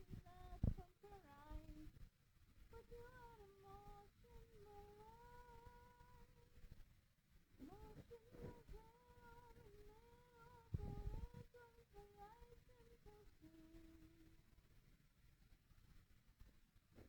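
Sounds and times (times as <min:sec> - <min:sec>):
person humming faintly: 0:00.0 - 0:06.8, 0:07.6 - 0:14.5.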